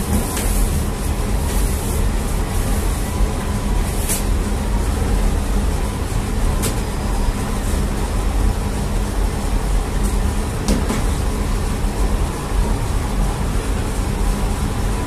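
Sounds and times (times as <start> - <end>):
machinery rumbling and humming: 0.0 - 15.0.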